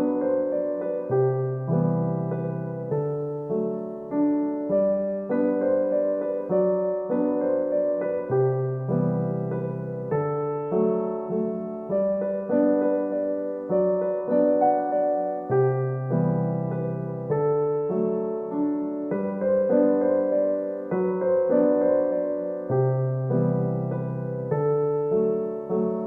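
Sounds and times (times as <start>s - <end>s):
soft piano music: 0.0s - 26.0s.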